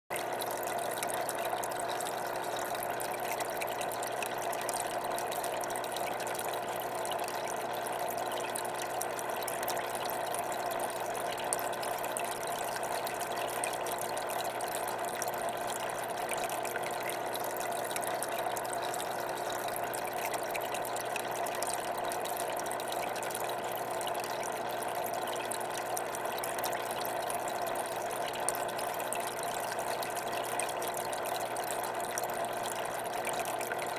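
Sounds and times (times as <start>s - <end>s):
aquarium pump humming: 0.2s - 33.9s.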